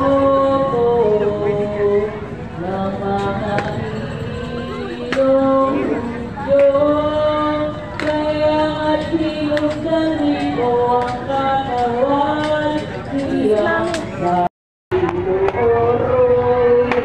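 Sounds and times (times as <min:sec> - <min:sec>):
unaccompanied chanting: 0:00.0 - 0:17.0.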